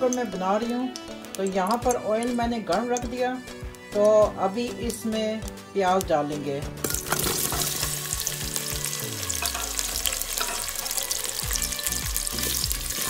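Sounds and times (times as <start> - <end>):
onions sizzling in hot oil: 0.0 - 6.0, 6.8 - 13.0.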